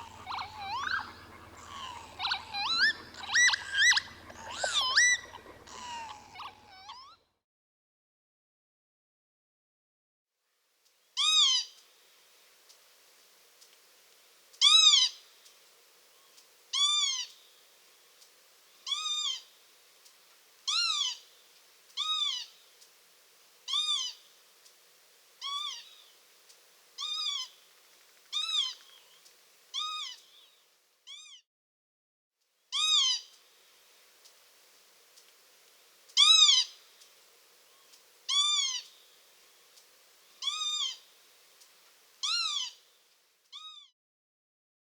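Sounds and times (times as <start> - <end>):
lapwing calling: 0.0 - 7.2, 11.2 - 11.9, 14.4 - 31.4, 32.7 - 43.9.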